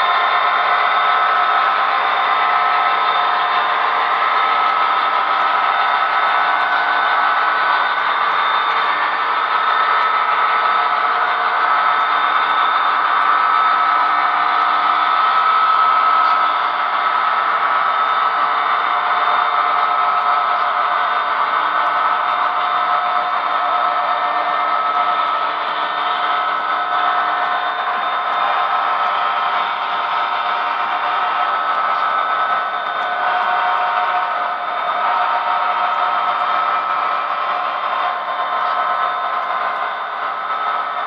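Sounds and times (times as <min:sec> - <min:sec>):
model train wheels rolling: 0:00.0 - 0:41.0.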